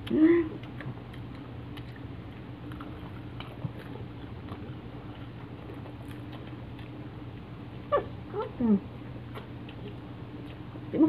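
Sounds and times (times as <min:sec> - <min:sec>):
faint chewing: 0:00.0 - 0:11.0
steady low hum: 0:00.0 - 0:11.0.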